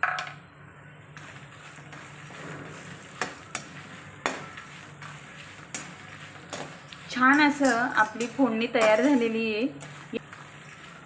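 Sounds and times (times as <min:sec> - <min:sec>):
hot oil sizzling: 0:01.1 - 0:11.0
metal ladle stirring: 0:01.1 - 0:11.0.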